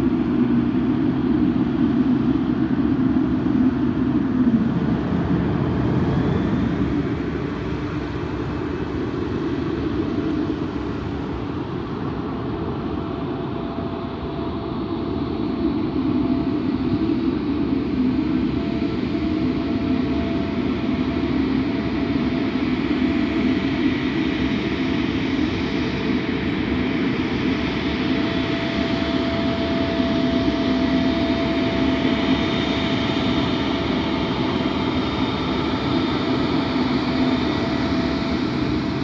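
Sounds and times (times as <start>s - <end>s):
faint high whine: 0.0s - 39.0s
jet engine rumble: 0.0s - 39.0s.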